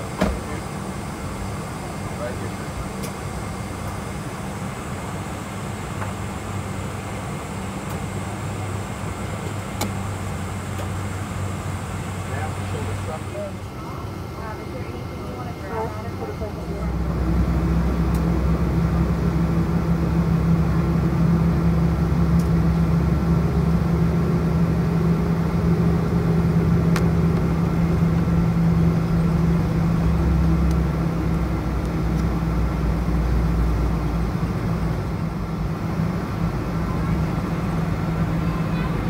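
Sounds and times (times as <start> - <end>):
jet engine drone in cabin: 0.0 - 39.0.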